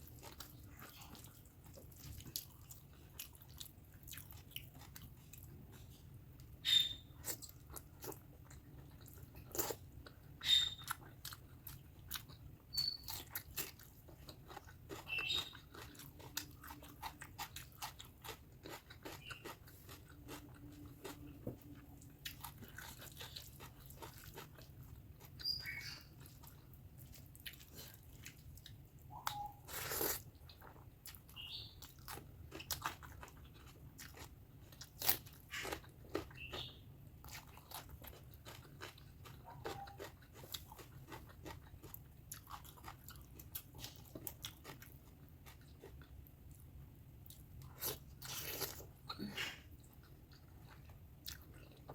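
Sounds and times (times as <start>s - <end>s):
chewing with wet clicks: 0.0s - 51.9s.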